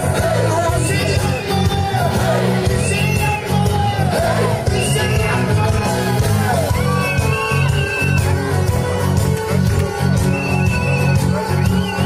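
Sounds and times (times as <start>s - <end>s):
crowd shouting: 0.0s - 12.0s
music with singing: 0.0s - 12.0s.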